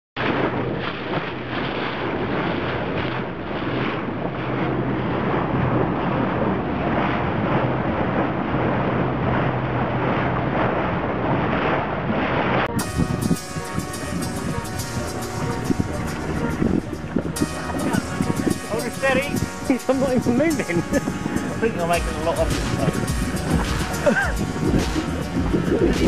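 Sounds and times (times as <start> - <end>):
outboard engine humming: 0.2 - 26.0
water rushing past hull: 0.2 - 26.0
wind buffeting microphone: 0.2 - 26.0.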